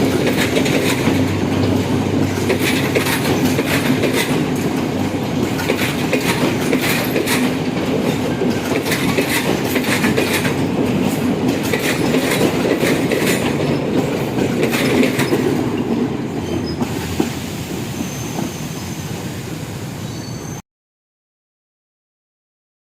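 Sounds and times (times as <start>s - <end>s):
train wheels clicking over rail joints: 0.0s - 18.8s
train rumbling along track: 0.0s - 20.6s.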